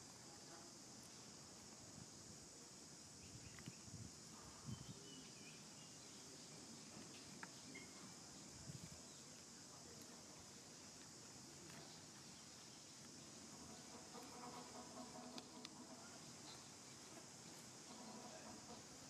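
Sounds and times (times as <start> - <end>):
faint chirps: 0.0 - 19.0.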